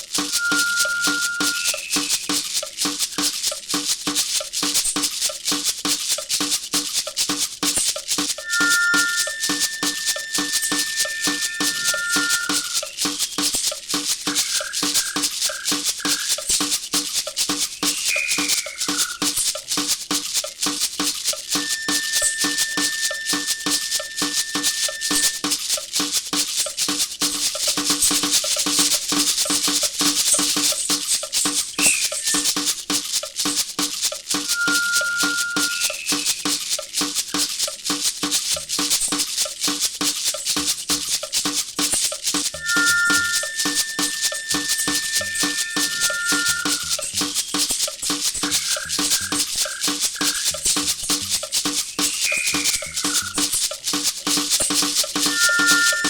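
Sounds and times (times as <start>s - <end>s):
fast percussion beat: 0.0s - 56.0s
shaker: 0.0s - 56.0s.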